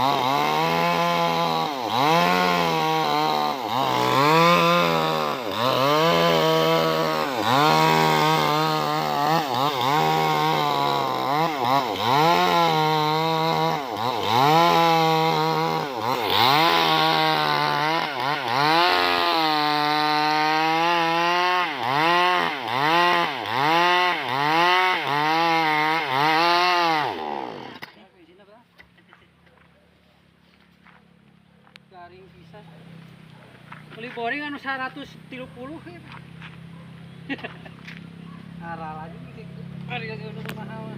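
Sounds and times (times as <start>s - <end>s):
chainsaw cutting wood: 0.0s - 28.1s, 32.9s - 34.9s, 35.8s - 39.0s, 39.6s - 40.9s.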